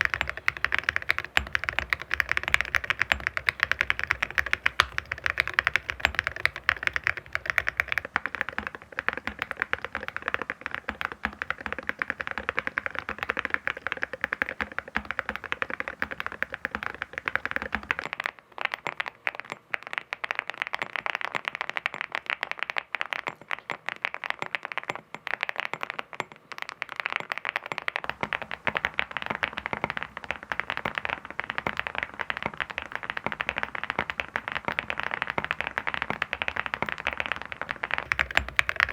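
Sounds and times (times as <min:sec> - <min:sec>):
fast typing on metal keyboard: 0:00.0 - 0:38.9.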